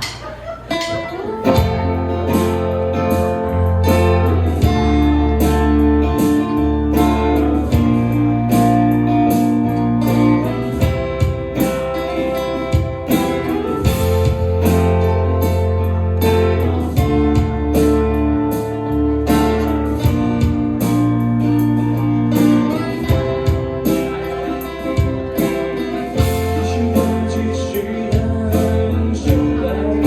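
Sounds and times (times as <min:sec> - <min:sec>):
electric guitar chords: 0:00.7 - 0:30.0
drum hits: 0:00.8 - 0:27.4
bass notes: 0:01.0 - 0:30.0.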